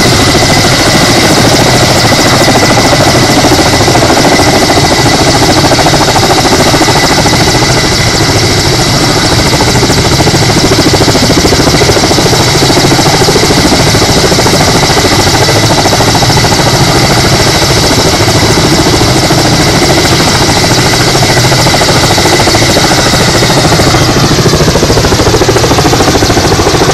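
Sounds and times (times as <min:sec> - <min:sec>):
helicopter rotor blades beating: 0:00.0 - 0:26.9.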